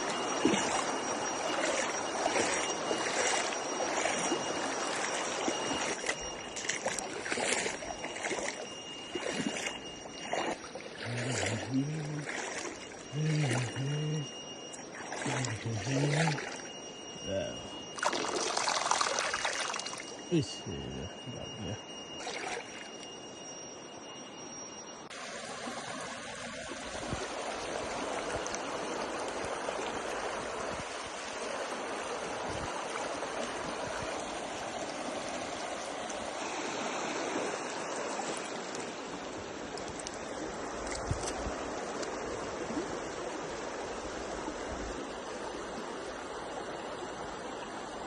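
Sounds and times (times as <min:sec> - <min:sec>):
stream water rushing: 0:00.0 - 0:23.1, 0:25.1 - 0:48.0.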